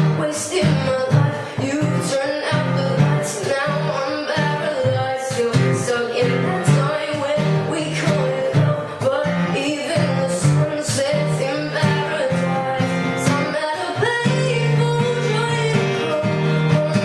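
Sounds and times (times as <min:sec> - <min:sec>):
girl singing pop song: 0:00.0 - 0:17.0
guitar accompaniment: 0:00.0 - 0:17.0.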